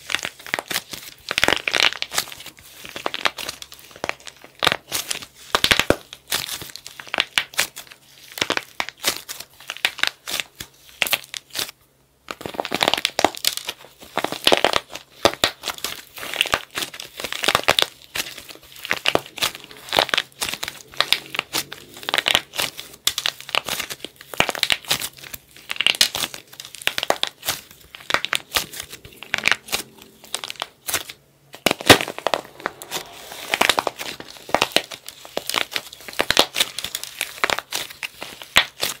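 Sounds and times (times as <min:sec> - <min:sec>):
clay shell cracking and crunching: 0:00.0 - 0:39.0.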